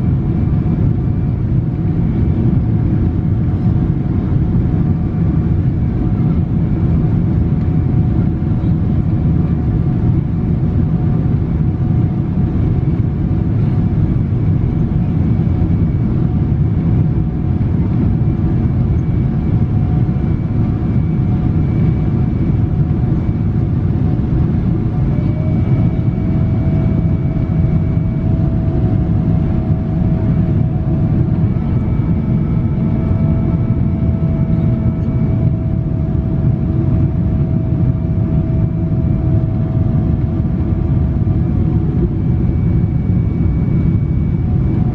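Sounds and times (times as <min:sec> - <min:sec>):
airplane cabin rumble: 0:00.0 - 0:44.9
faint engine whine: 0:00.0 - 0:44.9.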